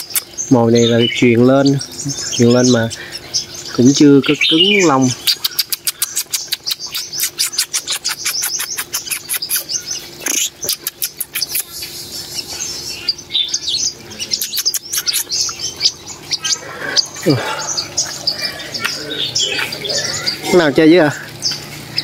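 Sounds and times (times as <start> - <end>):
birds chirping sharply: 0.0 - 22.0.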